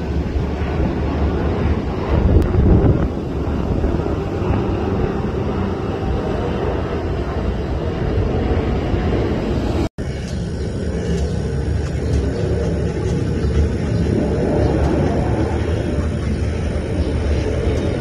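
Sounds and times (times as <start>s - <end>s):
jet engines passing overhead: 0.0s - 18.0s.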